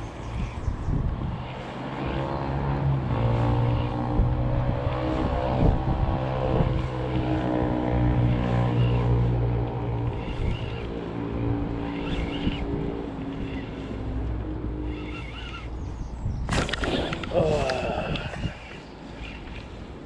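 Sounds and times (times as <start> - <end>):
motor engine droning: 0.0 - 20.0
wind buffeting microphone: 0.0 - 20.0.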